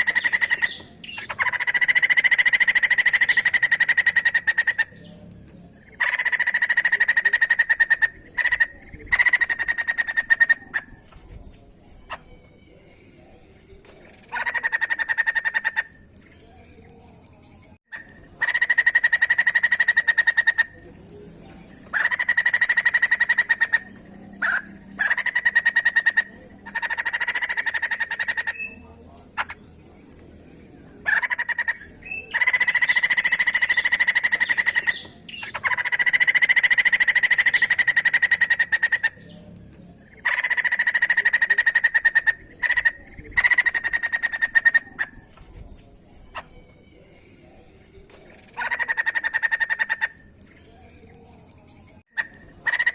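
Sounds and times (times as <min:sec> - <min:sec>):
bird buzzy chatter: 0:00.0 - 0:52.9.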